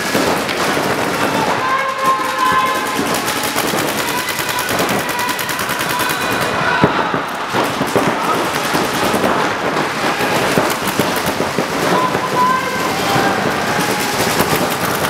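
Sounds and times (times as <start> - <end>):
paintball markers firing: 0.0 - 15.0.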